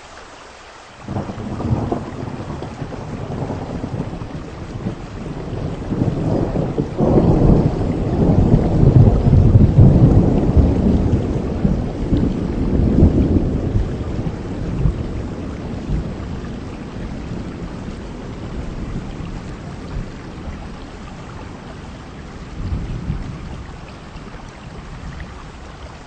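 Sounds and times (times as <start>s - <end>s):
heavy rain falling: 0.0s - 26.0s
low rumble of thunder: 1.1s - 26.0s.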